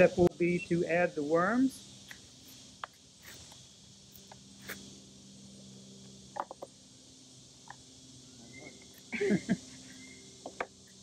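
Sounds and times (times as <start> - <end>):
high hiss: 0.0 - 11.0.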